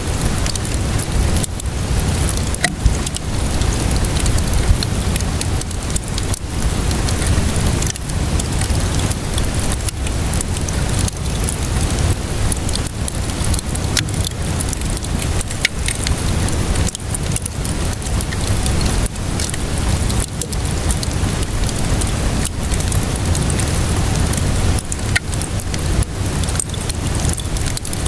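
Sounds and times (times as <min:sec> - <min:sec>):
rainfall hiss: 0:00.0 - 0:28.0
wood fire crackling: 0:00.0 - 0:28.0.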